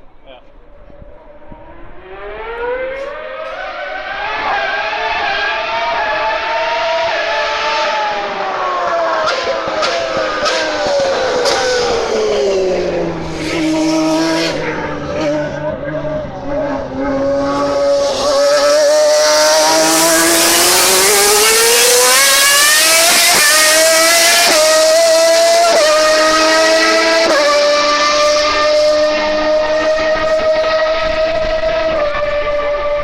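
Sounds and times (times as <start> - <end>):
racing car engine revving: 0.8 - 33.0.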